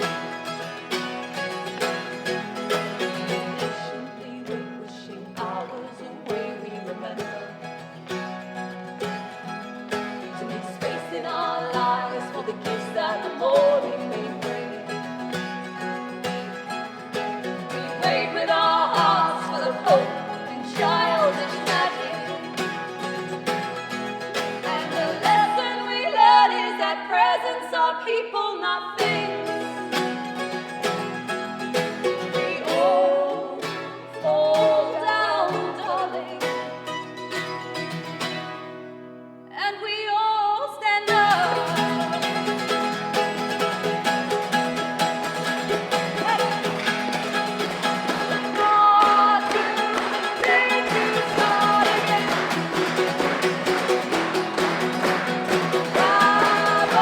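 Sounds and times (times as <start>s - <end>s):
strummed acoustic guitars: 0.0s - 27.8s, 28.9s - 39.8s, 41.0s - 57.0s
person singing: 2.6s - 8.0s, 10.1s - 16.0s, 17.2s - 30.7s, 31.7s - 36.8s, 39.5s - 44.4s, 45.2s - 57.0s.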